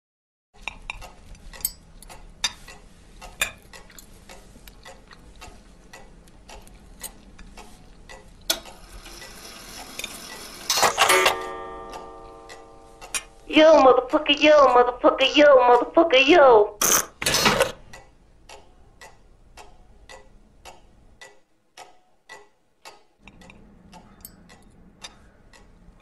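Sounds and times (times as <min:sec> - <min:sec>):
cuckoo clock ticking: 0:00.9 - 0:16.5, 0:17.8 - 0:26.0.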